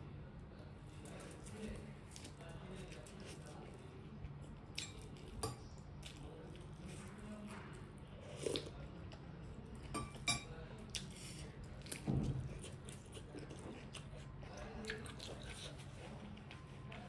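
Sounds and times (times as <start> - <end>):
faint low hum: 0.0 - 17.0
chewing and wet mouth sounds: 0.9 - 9.9, 10.8 - 17.0.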